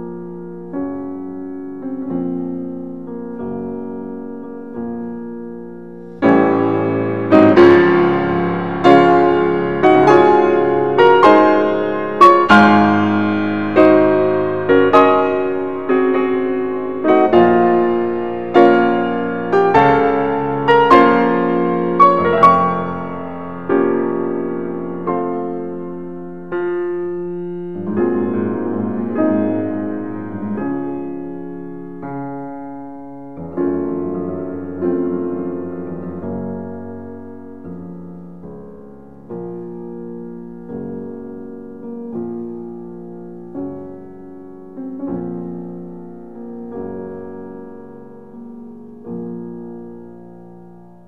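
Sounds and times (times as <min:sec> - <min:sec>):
slow solo piano music: 0:00.0 - 0:51.0.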